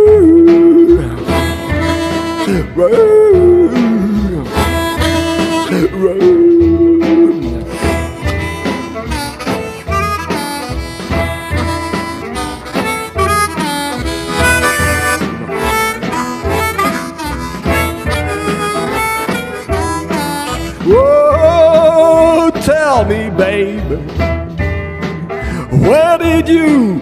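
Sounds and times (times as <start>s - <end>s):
low repeating beat: 0.0s - 25.0s
blues harmonica: 0.0s - 27.0s.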